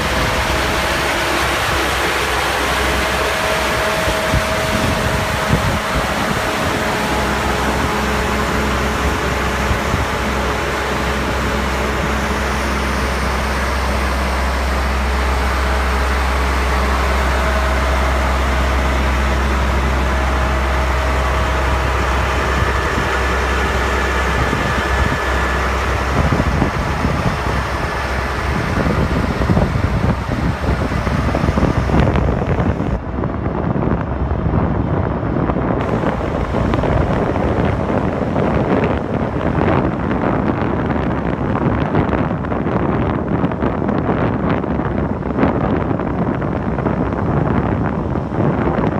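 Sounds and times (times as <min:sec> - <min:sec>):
low engine hum: 0:00.0 - 0:48.9
wind buffeting microphone: 0:00.0 - 0:48.9.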